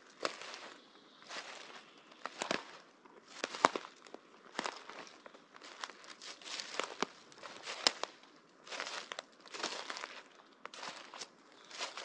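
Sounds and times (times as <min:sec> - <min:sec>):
footsteps crunching on forest floor: 0:00.0 - 0:12.0
dry branches snapping: 0:00.2 - 0:00.6, 0:02.2 - 0:12.0.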